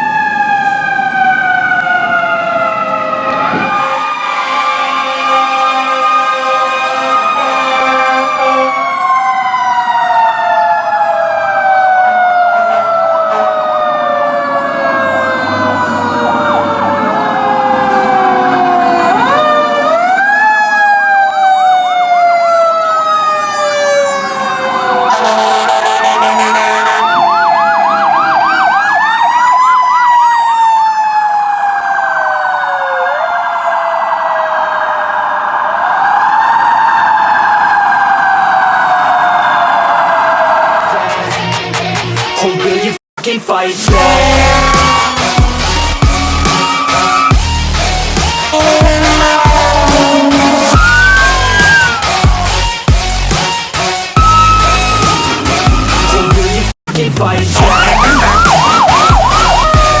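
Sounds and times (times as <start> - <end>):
rapid siren yelp: 0.0 - 40.6, 43.9 - 56.7, 57.6 - 60.0
fire truck sirens wailing: 0.0 - 41.4, 43.7 - 56.8, 57.5 - 60.0.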